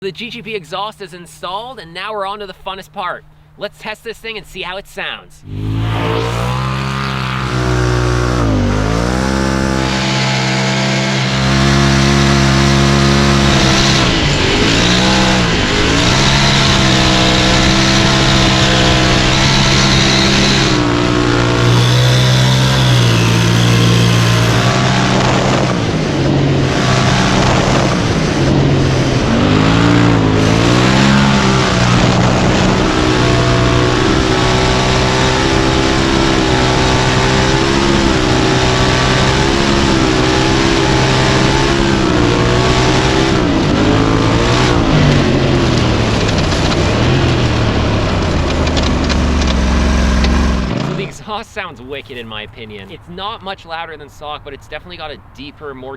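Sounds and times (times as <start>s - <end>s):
off-road vehicle engine revving: 5.4s - 52.9s.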